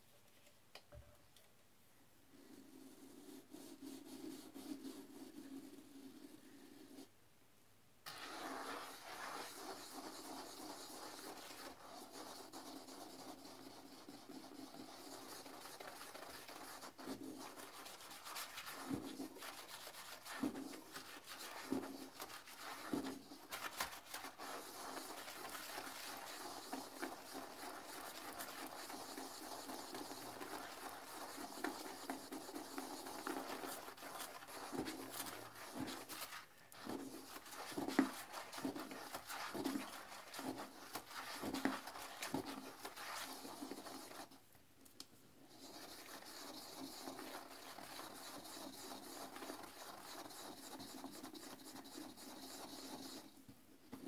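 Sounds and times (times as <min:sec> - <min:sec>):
toilet brush scrubbing bowl: 0:08.1 - 0:44.4, 0:45.4 - 0:53.4.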